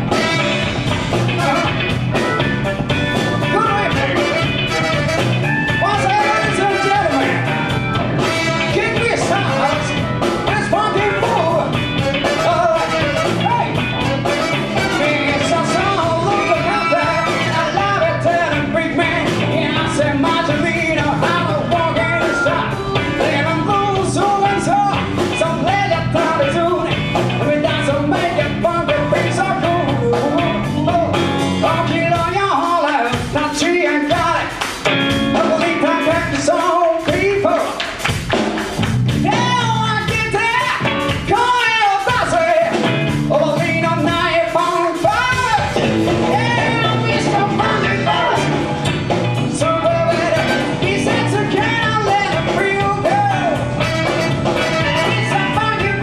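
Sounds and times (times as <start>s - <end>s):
person singing: 0.0s - 38.0s, 39.2s - 48.8s, 49.4s - 56.0s
live band playing: 0.0s - 56.0s.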